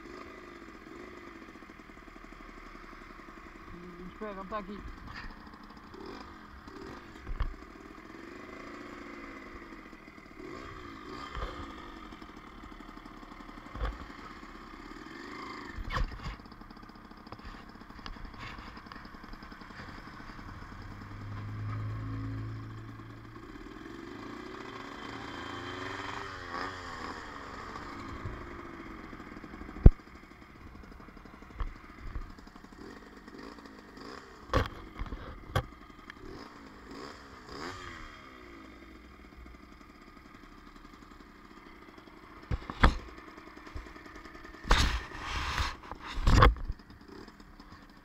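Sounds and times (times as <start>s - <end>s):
small motorcycle engine revving: 0.0s - 48.0s.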